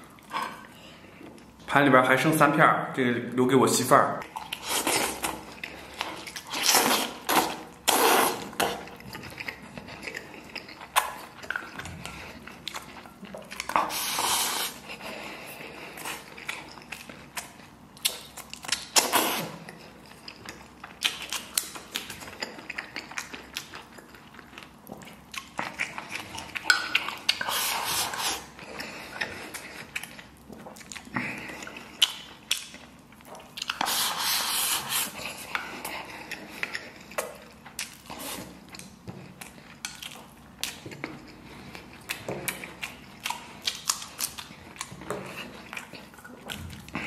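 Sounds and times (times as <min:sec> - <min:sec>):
close chewing: 0:04.2 - 0:47.0.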